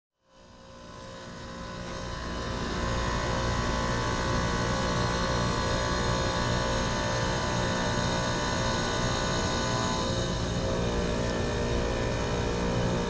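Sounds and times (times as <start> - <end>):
heat pump humming drone: 0.2 - 13.0.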